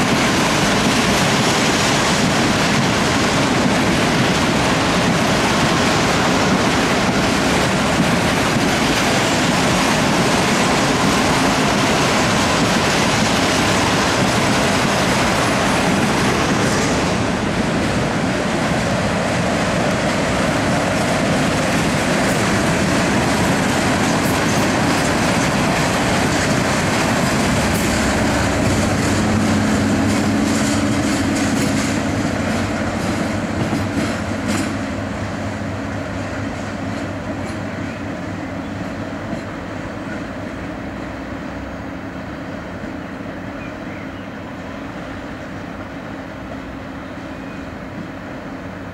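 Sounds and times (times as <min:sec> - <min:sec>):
train wheels clattering on rails: 0:00.0 - 0:44.0.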